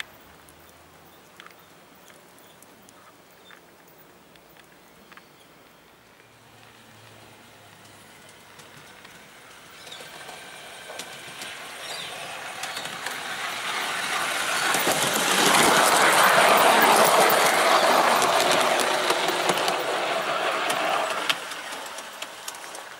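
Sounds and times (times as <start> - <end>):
model train wheels clicking on rails: 0.0 - 2.7, 6.0 - 22.9.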